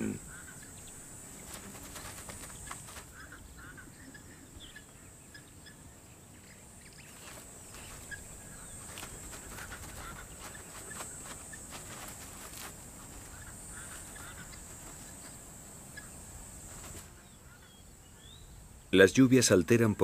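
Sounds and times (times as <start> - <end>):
steady high-pitched hiss: 0.0 - 20.0.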